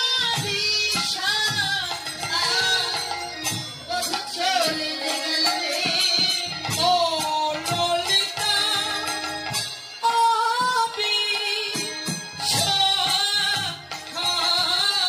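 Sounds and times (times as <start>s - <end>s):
jingling hand percussion: 0.0s - 15.0s
woman singing into a microphone: 0.0s - 15.0s.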